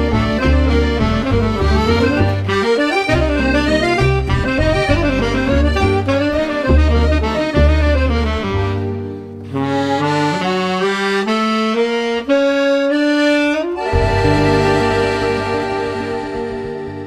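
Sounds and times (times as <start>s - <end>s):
accordion music: 0.0s - 17.0s.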